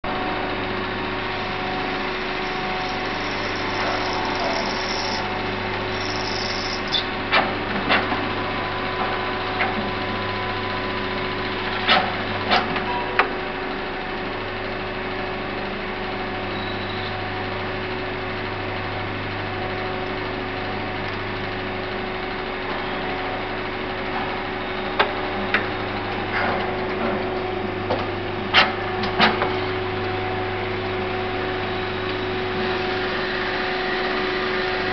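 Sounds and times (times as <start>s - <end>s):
lathe humming: 0.1s - 26.3s, 27.5s - 34.9s.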